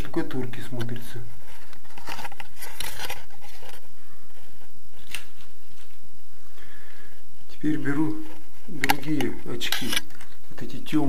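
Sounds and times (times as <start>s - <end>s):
handling noises on microphone: 0.4s - 6.1s, 7.5s - 10.8s.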